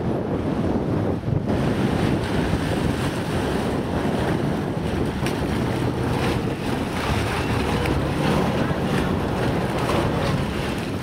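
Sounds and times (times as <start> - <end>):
propeller churning water: 0.0 - 11.0
wind buffeting microphone: 0.0 - 11.0
boat diesel engine running: 1.6 - 11.0.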